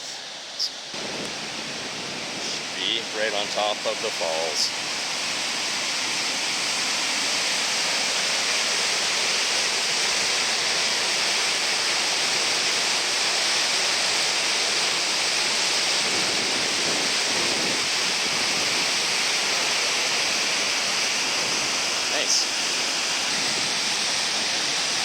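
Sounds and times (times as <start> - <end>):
waterfall rushing: 0.1 - 25.0.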